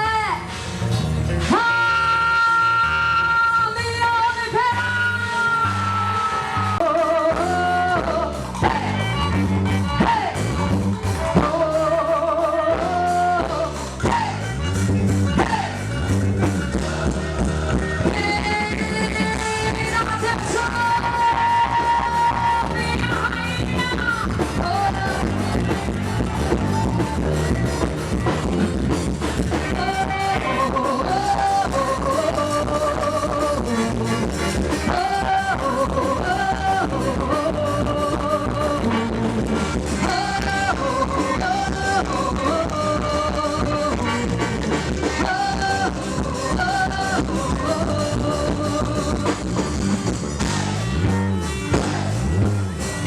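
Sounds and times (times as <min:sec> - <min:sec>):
music with steady beat: 0:06.4 - 0:53.0.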